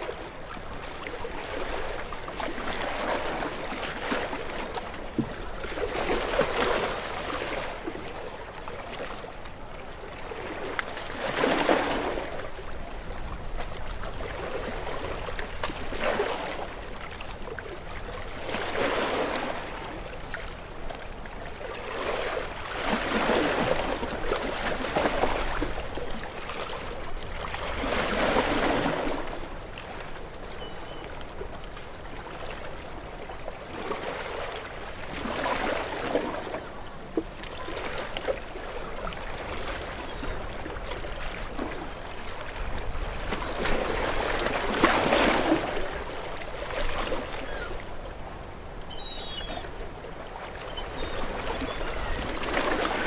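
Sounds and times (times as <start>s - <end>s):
continuous low water wash: 0.0s - 53.0s
small waves washing on shore: 0.0s - 53.0s.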